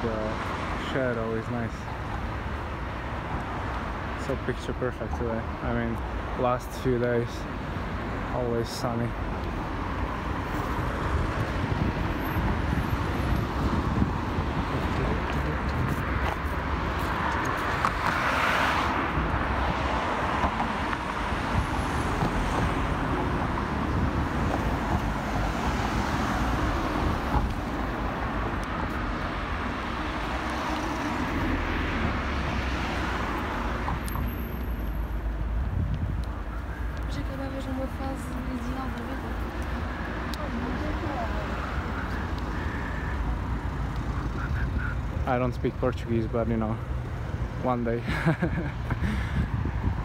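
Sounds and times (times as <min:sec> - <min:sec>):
cars passing: 0:00.0 - 0:50.0.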